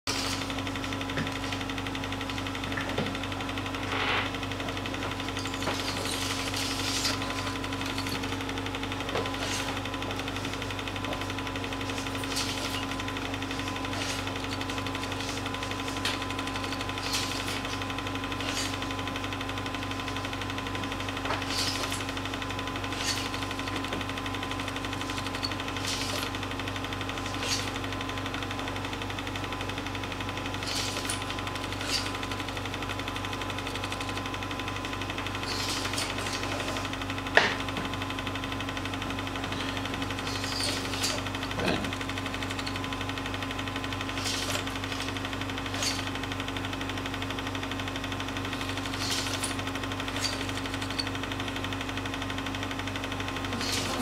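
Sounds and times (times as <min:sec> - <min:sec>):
film projector running: 0:00.1 - 0:54.0.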